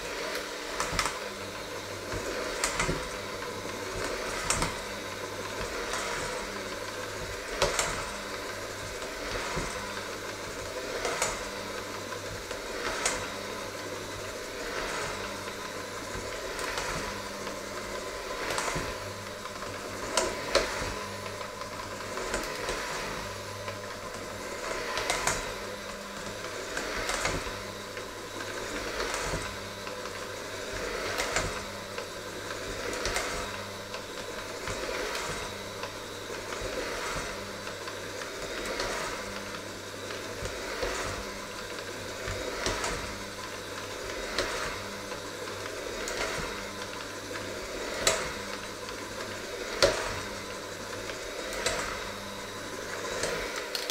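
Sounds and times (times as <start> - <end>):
electric hand mixer running: 0.0 - 53.9.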